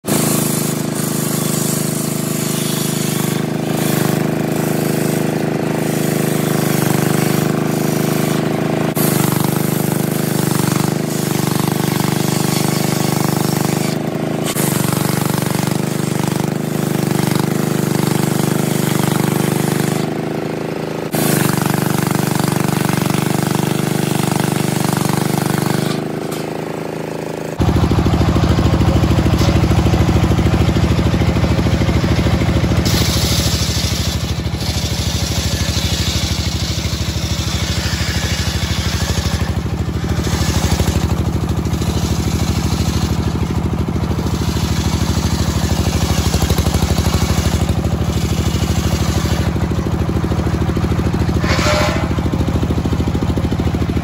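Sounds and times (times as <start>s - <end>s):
circular saw cutting log: 0.0s - 54.0s.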